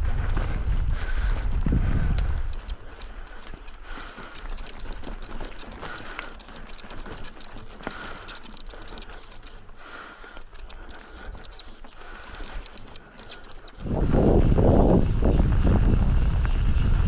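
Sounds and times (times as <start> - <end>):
bike clattering on dirt trail: 0.4 - 17.0.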